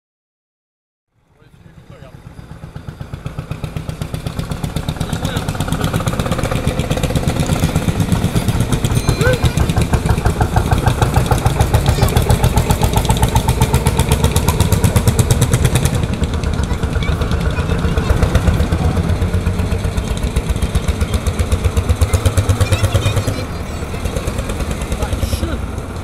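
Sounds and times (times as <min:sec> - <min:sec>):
tractor engine chugging: 0:01.3 - 0:26.0.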